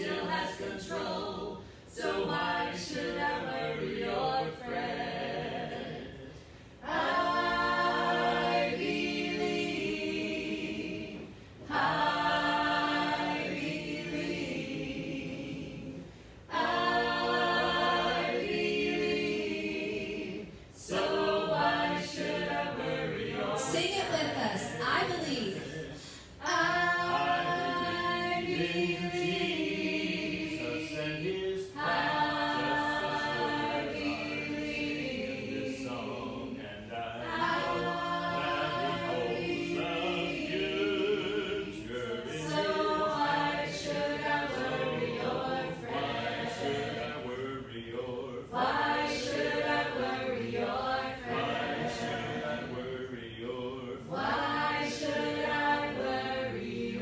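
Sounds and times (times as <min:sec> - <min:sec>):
group singing gospel unaccompanied: 0:00.0 - 0:57.0.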